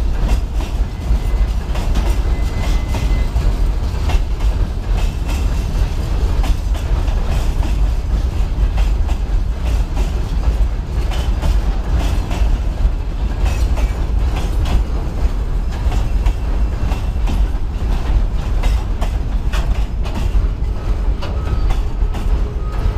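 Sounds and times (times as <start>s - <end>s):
freight train rumbling past: 0.0s - 22.9s
wheels clattering over rail joints: 0.0s - 22.9s.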